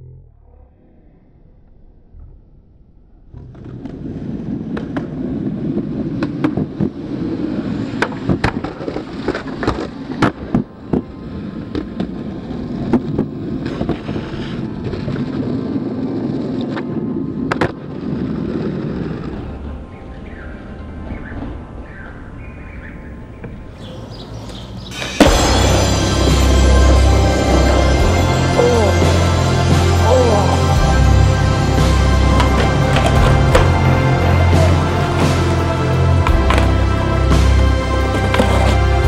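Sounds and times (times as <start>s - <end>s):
skateboard wheels rolling on pavement: 3.2s - 29.3s, 31.0s - 39.0s.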